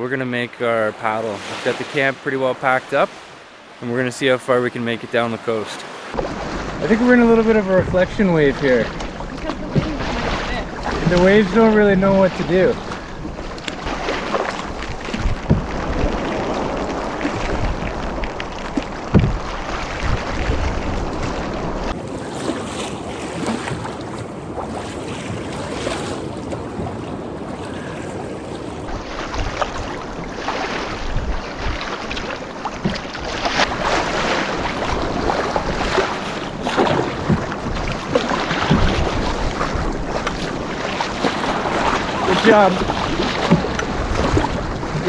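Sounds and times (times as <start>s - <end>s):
waves splashing against a canoe: 0.0s - 45.0s
wind on microphone: 5.8s - 45.0s.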